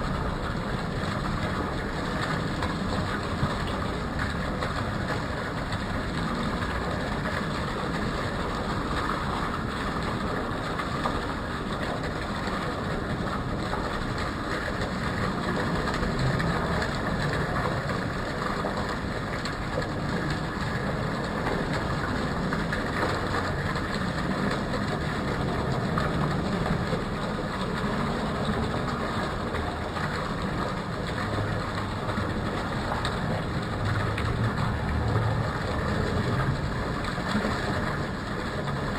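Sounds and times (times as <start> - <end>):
traffic rumble and hiss: 0.0 - 38.9.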